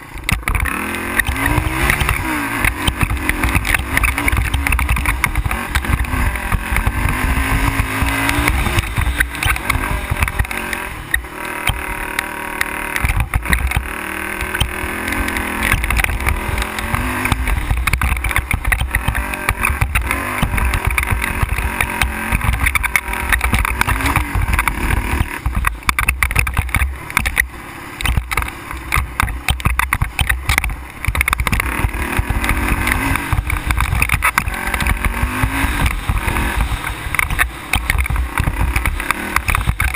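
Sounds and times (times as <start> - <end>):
atv engine revving: 0.0 - 39.9
rattling over rough ground: 0.0 - 39.9.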